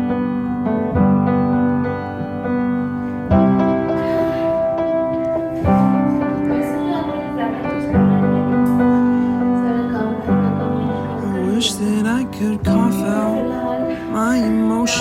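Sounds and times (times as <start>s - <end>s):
soft pop piano chords: 0.0s - 15.0s.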